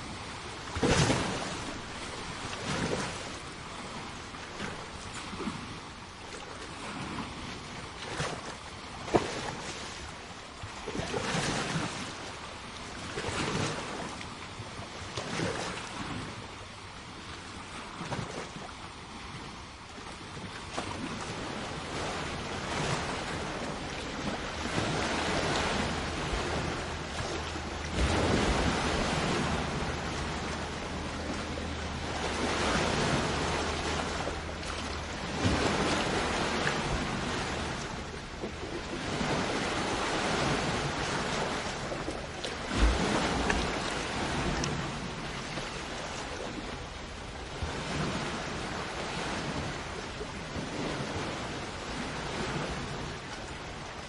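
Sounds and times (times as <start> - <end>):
sea waves washing onto shore: 0.0 - 54.0
wind rumble on microphone: 0.0 - 54.0.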